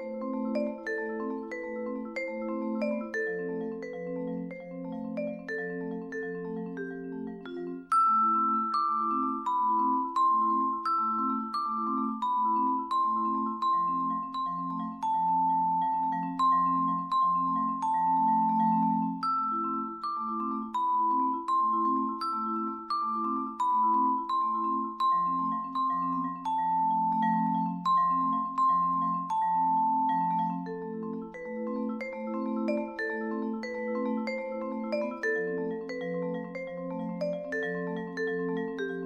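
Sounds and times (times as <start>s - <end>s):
vibraphone played with mallets: 0.0s - 39.0s.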